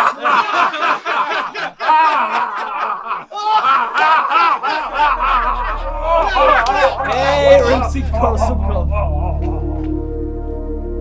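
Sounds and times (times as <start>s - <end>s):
group of people laughing: 0.0s - 9.9s.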